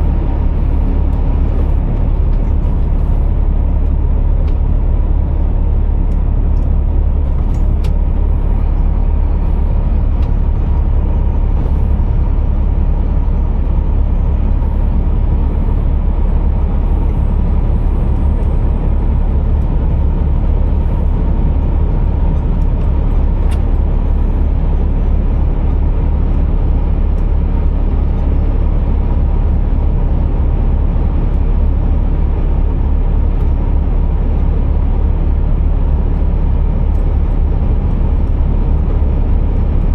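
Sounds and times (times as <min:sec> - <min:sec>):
heavy truck engine rumbling: 0:00.0 - 0:39.9.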